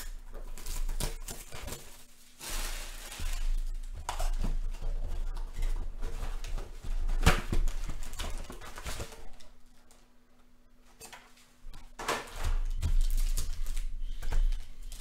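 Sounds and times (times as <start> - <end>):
cardboard and packs rustling: 0.4 - 9.6, 12.0 - 15.0.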